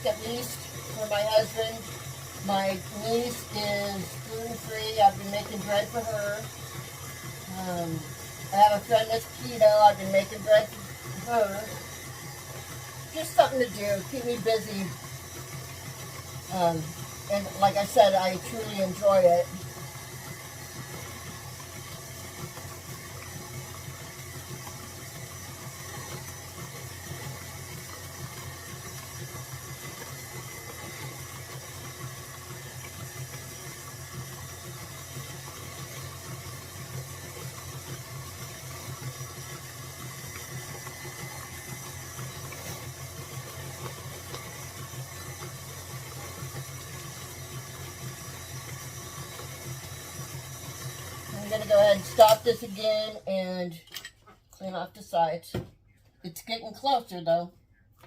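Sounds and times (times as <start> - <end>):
electric stand mixer running: 0.0 - 53.8.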